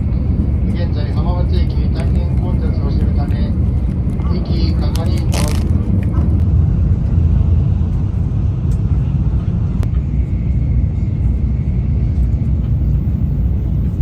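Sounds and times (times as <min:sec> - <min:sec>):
train carriage rumble: 0:00.0 - 0:14.0.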